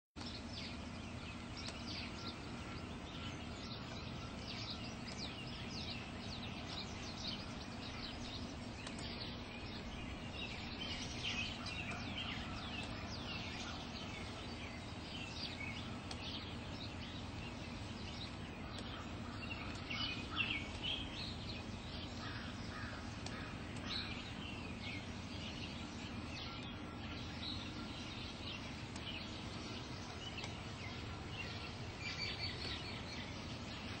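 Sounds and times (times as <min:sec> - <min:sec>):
birds chirping and singing: 0:00.2 - 0:34.0
low background rumble: 0:00.2 - 0:34.0.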